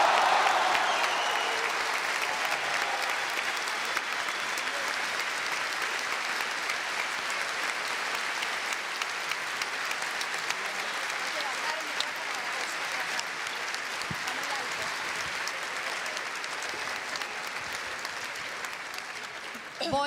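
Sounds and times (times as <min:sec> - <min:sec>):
crowd applauding: 0:00.0 - 0:20.0.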